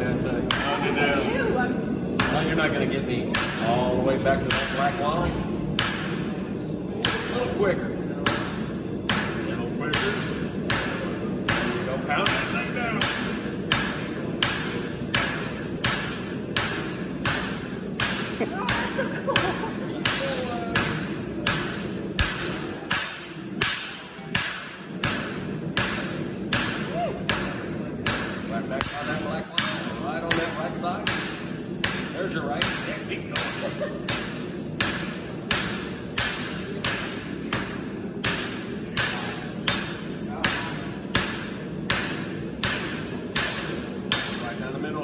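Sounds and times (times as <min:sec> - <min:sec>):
hammer striking metal on anvil: 0:00.4 - 0:01.0, 0:02.1 - 0:45.0.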